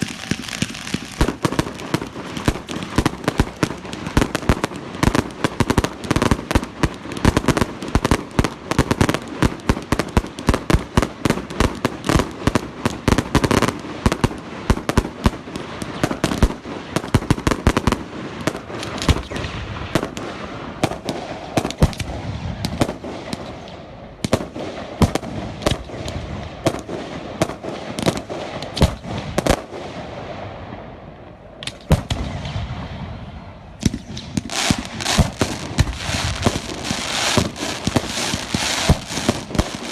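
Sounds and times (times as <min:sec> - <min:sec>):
fireworks banging: 0:00.0 - 0:30.9, 0:31.6 - 0:39.9
fireworks crackling: 0:00.0 - 0:39.9.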